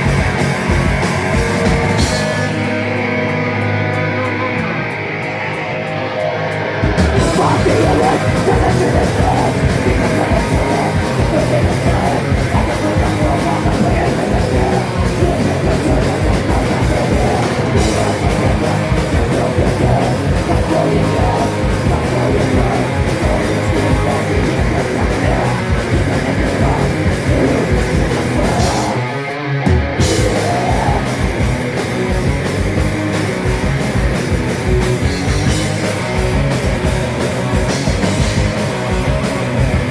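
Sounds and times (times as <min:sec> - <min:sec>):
distorted guitar: 0:00.0 - 0:39.9
metal band playing: 0:00.0 - 0:39.9.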